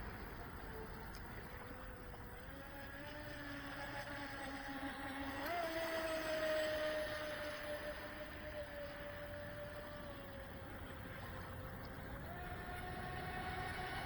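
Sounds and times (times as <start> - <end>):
distant boat electric motor whining: 0.0 - 14.0.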